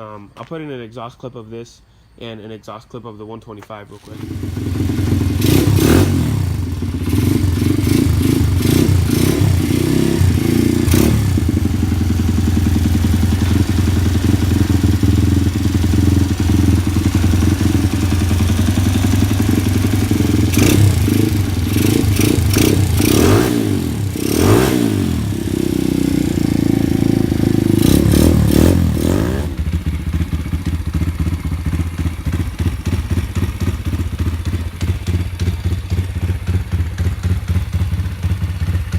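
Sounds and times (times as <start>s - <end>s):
motorcycle engine revving and idling: 4.0s - 38.9s.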